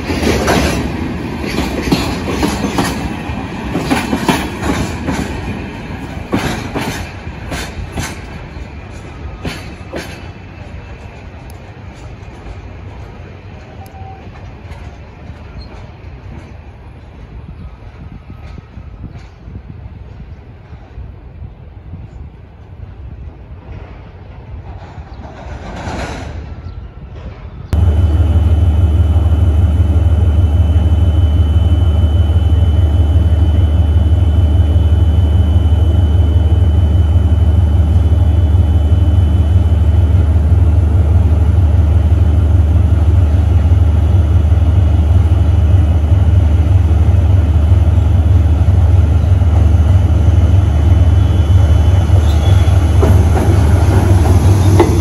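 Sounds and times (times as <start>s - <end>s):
diesel locomotive engine rumbling: 0.0s - 55.0s
train wheels rolling on rails: 0.0s - 55.0s.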